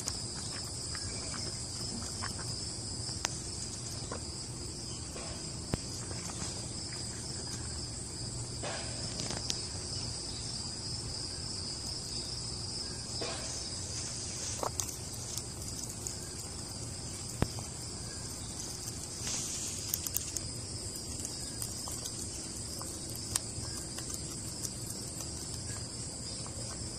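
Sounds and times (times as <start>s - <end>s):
insects chorus: 0.0s - 26.9s.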